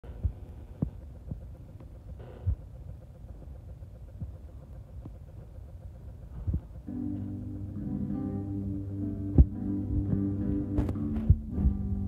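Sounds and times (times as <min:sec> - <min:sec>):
low hum and rumble: 0:00.0 - 0:12.0
soft low thumps: 0:00.0 - 0:12.0.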